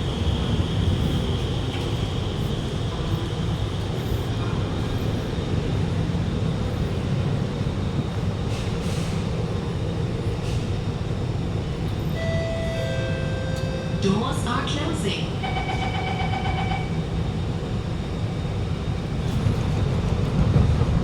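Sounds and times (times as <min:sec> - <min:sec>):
metro train wheels rumbling: 0:00.0 - 0:21.0.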